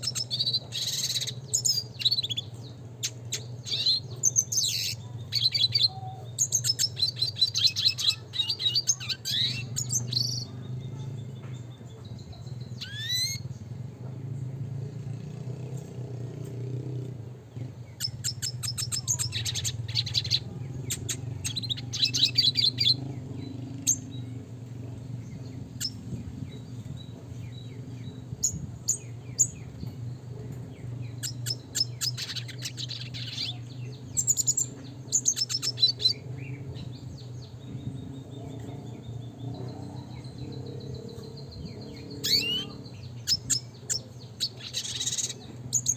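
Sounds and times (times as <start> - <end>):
bird twittering and trilling: 0.0 - 45.9
steady low hum: 0.0 - 45.9.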